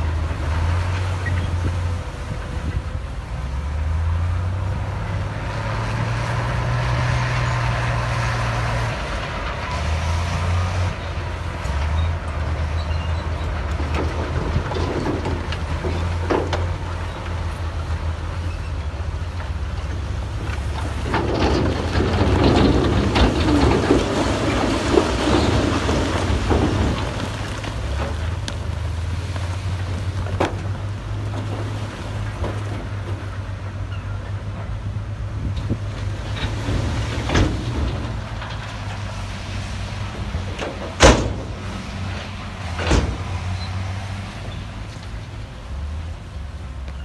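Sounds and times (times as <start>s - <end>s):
diesel machine engine droning: 0.0s - 47.0s
rough scraping and clattering: 5.0s - 34.8s, 35.4s - 45.4s.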